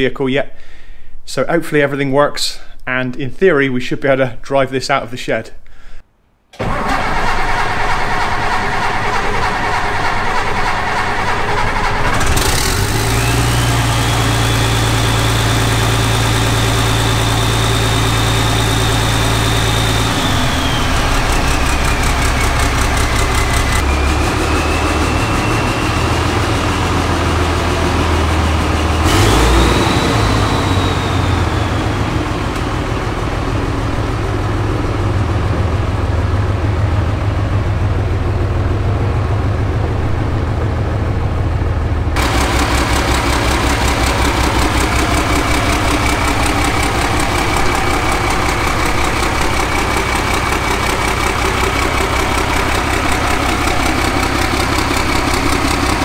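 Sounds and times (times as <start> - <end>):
diesel engine running: 6.6 - 56.0
turbo whine: 9.0 - 56.0.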